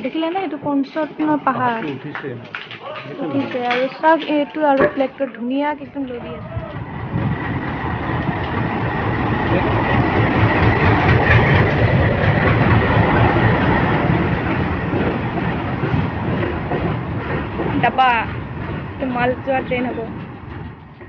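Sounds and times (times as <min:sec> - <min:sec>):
diesel locomotive engine rumble: 0:03.4 - 0:21.0
train wheels on rails: 0:03.4 - 0:21.0.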